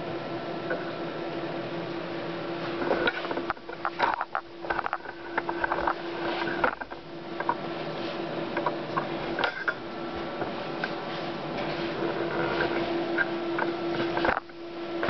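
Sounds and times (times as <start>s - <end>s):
printer hum: 0.0s - 15.0s.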